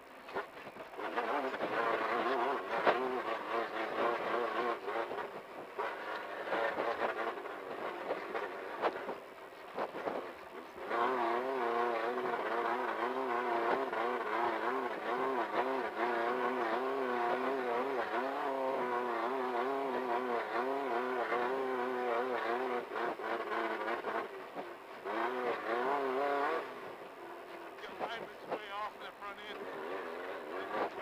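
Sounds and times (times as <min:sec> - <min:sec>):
race car engine revving: 0:00.3 - 0:31.0.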